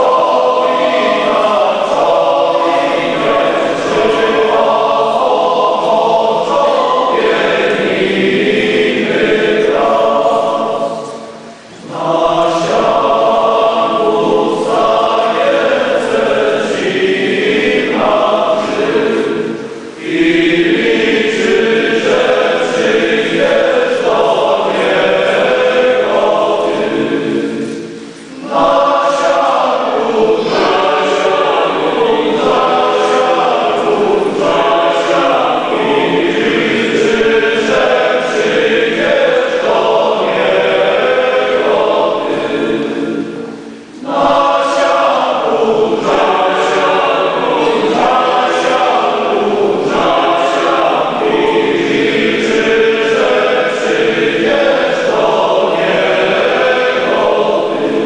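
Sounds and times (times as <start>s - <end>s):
men's choir singing a hymn: 0.0s - 58.0s.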